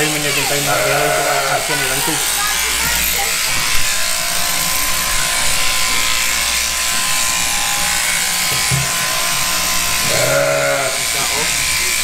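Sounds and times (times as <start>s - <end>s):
electric shearing handpiece whining: 0.0s - 12.0s.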